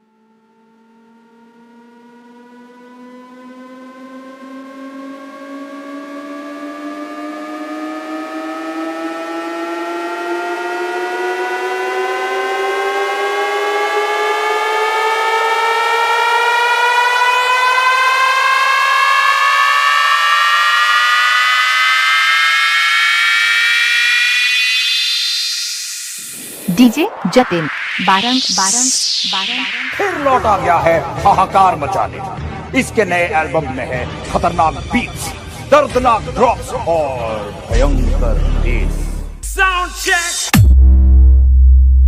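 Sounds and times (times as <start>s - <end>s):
synthesized riser: 0.0s - 42.0s.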